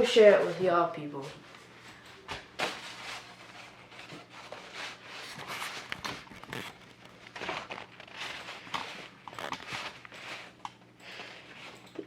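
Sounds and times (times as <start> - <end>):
soft rustling and handling: 0.0 - 12.0.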